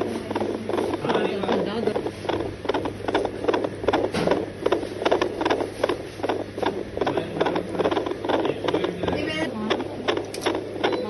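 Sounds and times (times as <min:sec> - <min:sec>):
electrical hum: 0:00.0 - 0:11.0
fetal heartbeat whooshing pulses: 0:00.0 - 0:11.0.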